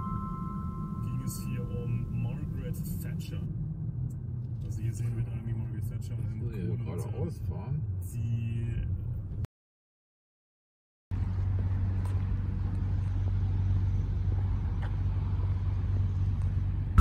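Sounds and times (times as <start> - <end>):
low vehicle rumble: 0.0 - 9.5, 11.1 - 17.0.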